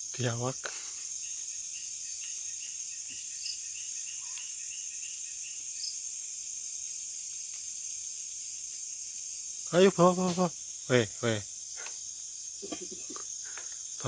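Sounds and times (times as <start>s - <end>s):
cricket trill: 0.0s - 14.0s
short insect chirps: 0.0s - 14.0s.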